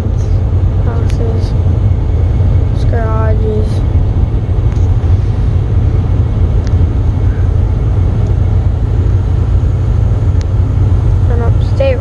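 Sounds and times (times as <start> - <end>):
diesel engine rumble: 0.0 - 12.0
road noise: 0.0 - 12.0.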